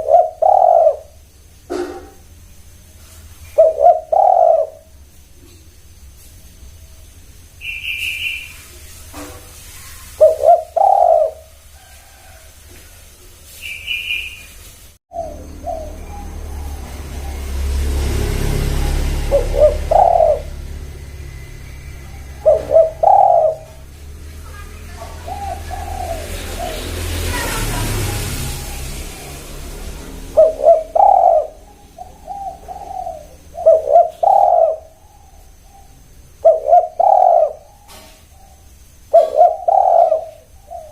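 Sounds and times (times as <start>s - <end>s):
doves cooing: 0.0s - 2.2s, 3.1s - 5.6s, 9.1s - 13.0s, 15.1s - 40.9s.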